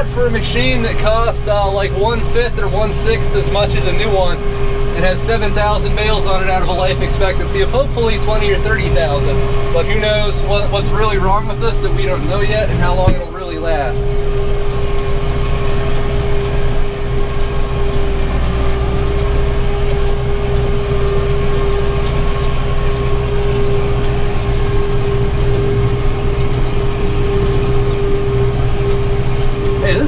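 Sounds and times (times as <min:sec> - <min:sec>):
baler whine: 0:00.0 - 0:30.0
tractor engine drone: 0:00.0 - 0:30.0.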